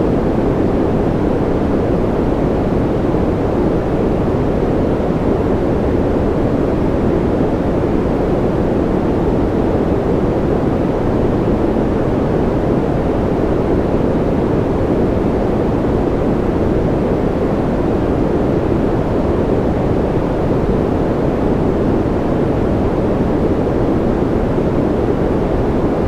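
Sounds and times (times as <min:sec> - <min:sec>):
deep white noise: 0:00.0 - 0:26.0.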